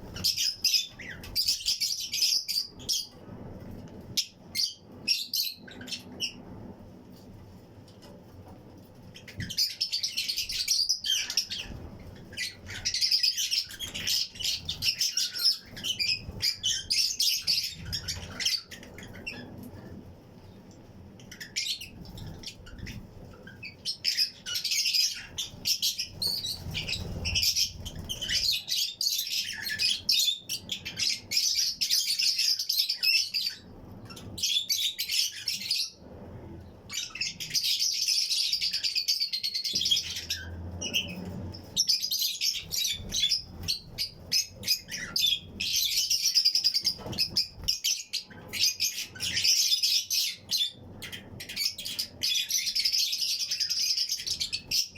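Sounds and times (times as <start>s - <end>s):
lovebirds chirping: 0.0s - 6.7s, 8.9s - 36.2s, 36.8s - 54.9s.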